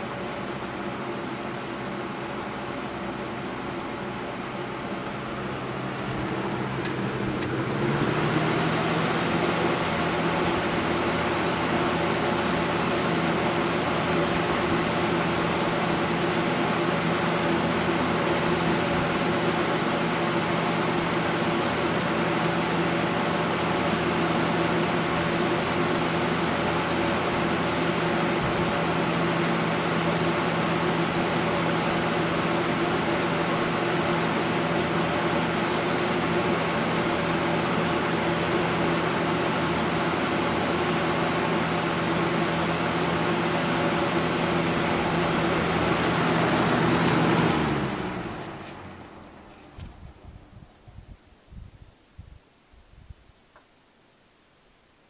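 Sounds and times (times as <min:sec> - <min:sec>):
box fan running: 0:00.0 - 0:51.8.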